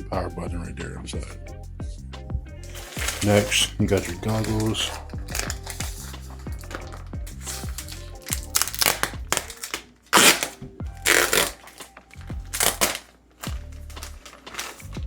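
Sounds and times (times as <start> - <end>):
music with deep bass beat: 0.0 - 9.6, 10.6 - 15.0
packaging rustling and knocking: 2.6 - 15.0.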